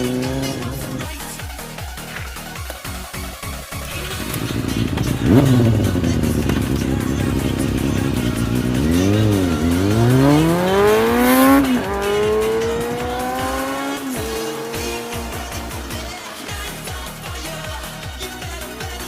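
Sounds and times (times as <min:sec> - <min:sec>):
motorcycle accelerating: 0:00.0 - 0:19.0.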